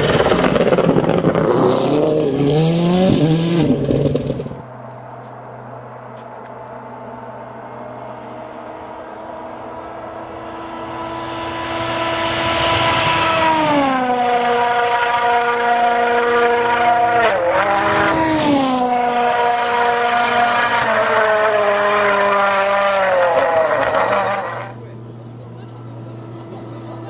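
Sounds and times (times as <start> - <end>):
rally car engine running hard: 0.0 - 4.7, 7.4 - 27.0.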